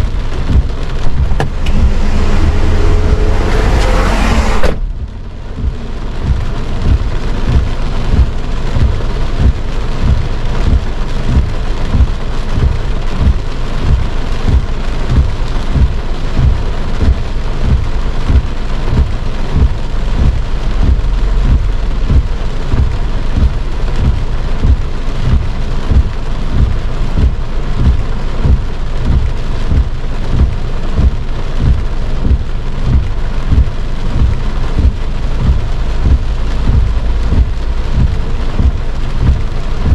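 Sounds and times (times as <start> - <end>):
heavy rain on a car roof: 0.0 - 39.9.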